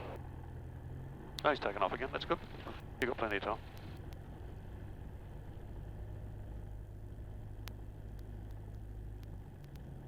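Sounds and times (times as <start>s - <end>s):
light aircraft engine idling: 0.0s - 10.0s.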